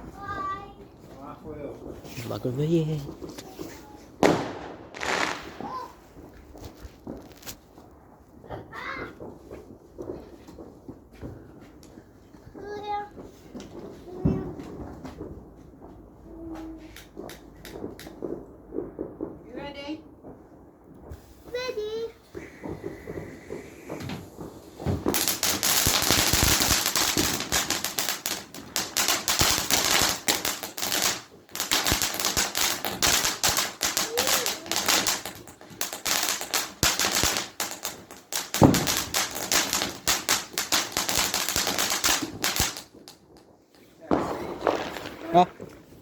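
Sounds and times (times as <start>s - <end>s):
firework crackling bangs: 0.0s - 46.0s.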